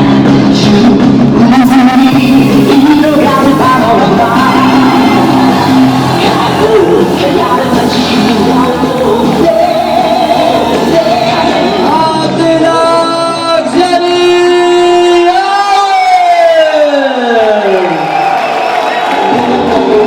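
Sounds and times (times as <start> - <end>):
music with singing over loudspeakers: 0.0 - 17.0.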